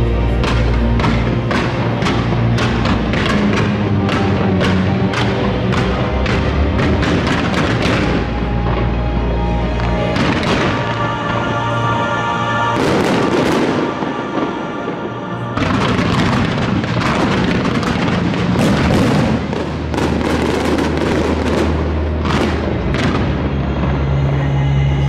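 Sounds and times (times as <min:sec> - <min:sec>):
fireworks bangs and booms: 0:00.0 - 0:11.6, 0:12.7 - 0:24.5
music: 0:00.0 - 0:25.0.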